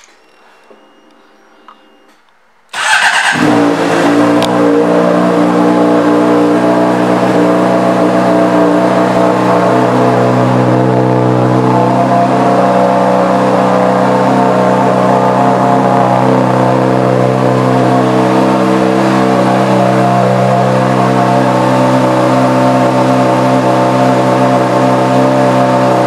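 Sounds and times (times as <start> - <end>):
motorcycle engine starting and idling: 2.7 - 26.0.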